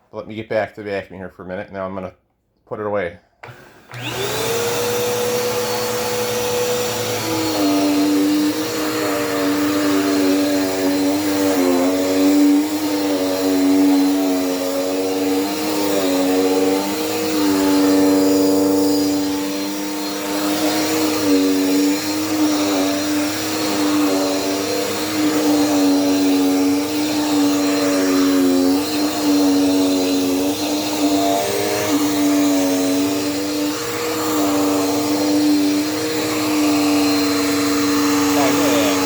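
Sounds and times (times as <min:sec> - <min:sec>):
vacuum cleaner running: 0:03.4 - 0:39.0.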